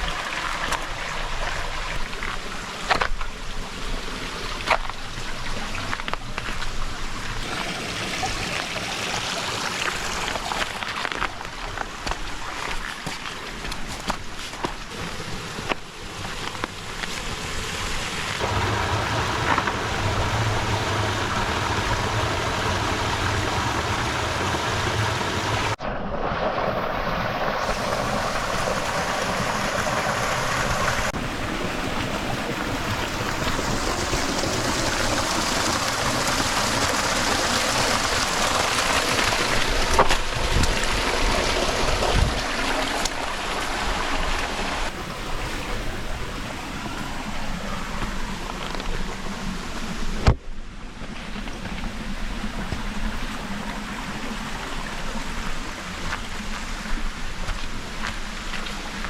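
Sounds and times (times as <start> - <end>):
rushing stream water: 0.0 - 59.0.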